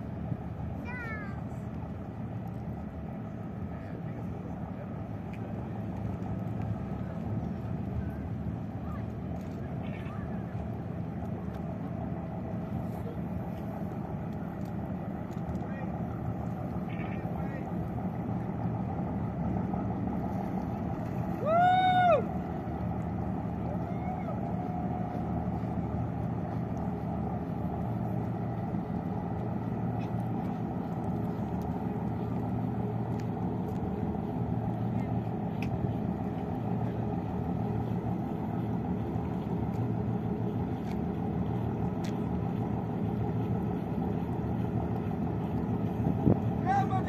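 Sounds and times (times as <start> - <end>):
boat engines rumbling: 0.0 - 47.0.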